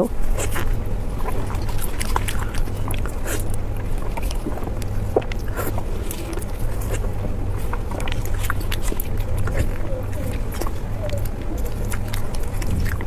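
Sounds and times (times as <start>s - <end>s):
low hum: 0.0s - 13.0s
person chewing with mouth clicks: 0.0s - 13.0s.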